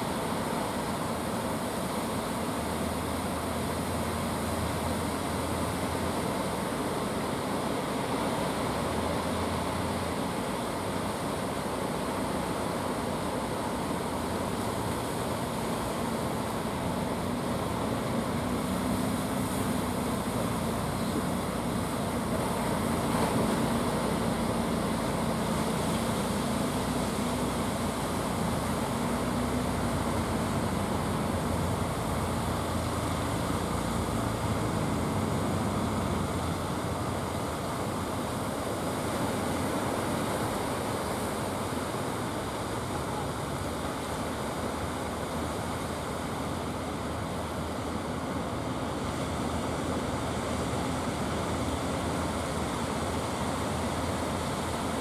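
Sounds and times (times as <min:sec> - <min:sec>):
boat engines humming: 0:00.0 - 0:55.0
surf and breaking waves: 0:00.0 - 0:55.0.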